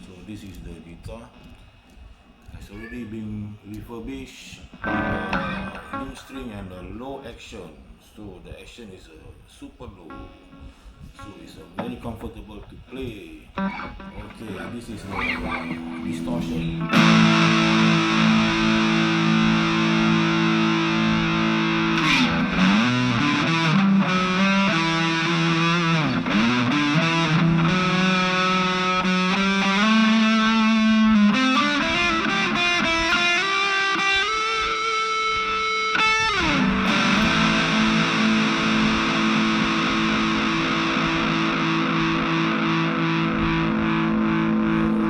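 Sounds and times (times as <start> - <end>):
distorted electric guitar: 4.7 - 7.2, 10.1 - 12.9, 13.5 - 45.0.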